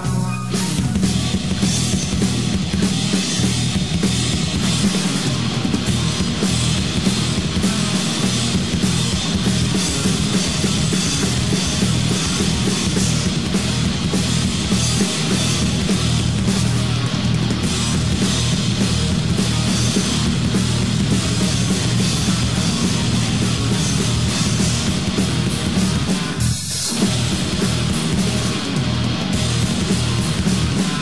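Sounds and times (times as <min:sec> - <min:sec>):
drum kit beating rapidly: 0:00.0 - 0:31.0
heavy rock band: 0:00.0 - 0:31.0.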